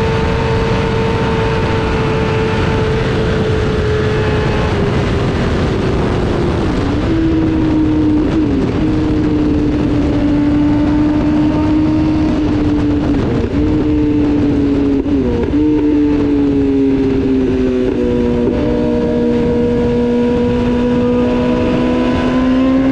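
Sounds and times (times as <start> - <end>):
motorcycle engine on the overrun: 0.0 - 22.9
wind rush: 0.0 - 22.9.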